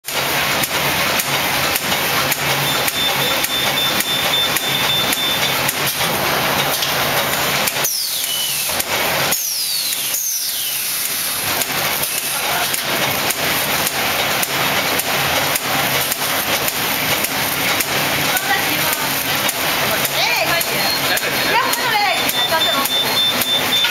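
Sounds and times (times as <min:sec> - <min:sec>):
machine clattering: 0:00.1 - 0:23.9
rapid machine clicks: 0:00.1 - 0:23.9.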